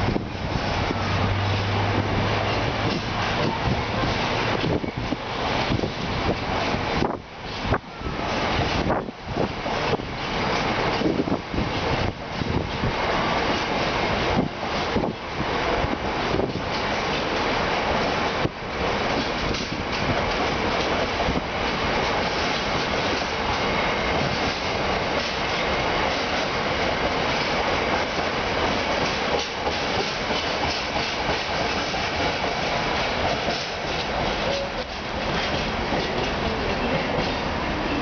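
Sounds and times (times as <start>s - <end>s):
train wheels clattering over rail joints: 0.0s - 38.0s.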